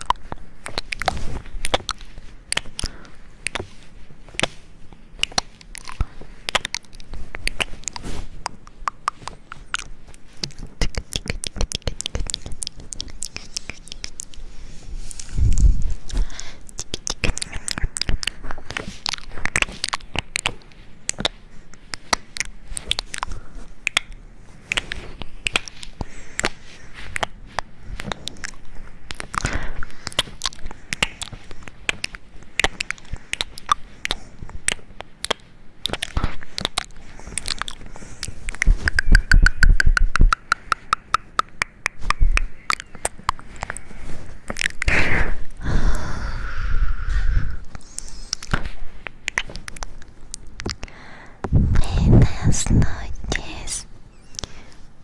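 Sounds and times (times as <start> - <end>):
crunchy chewing and biting: 0.0 - 45.7, 47.6 - 52.2.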